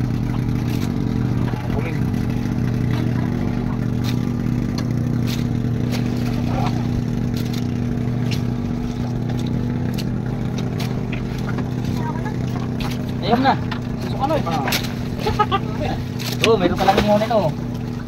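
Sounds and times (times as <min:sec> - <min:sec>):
boat engine running steadily: 0:00.0 - 0:18.0.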